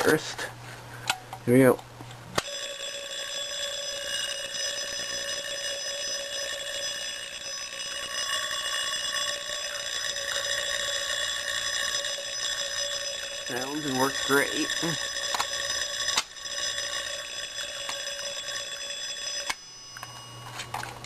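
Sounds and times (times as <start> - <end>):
fire alarm bell ringing: 2.4 - 21.0.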